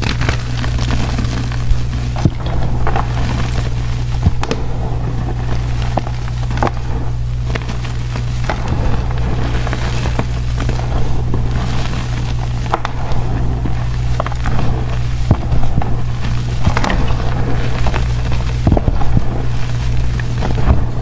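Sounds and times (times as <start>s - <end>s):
chalk crunching in hands: 0.0s - 21.0s
steady low hum: 0.0s - 21.0s.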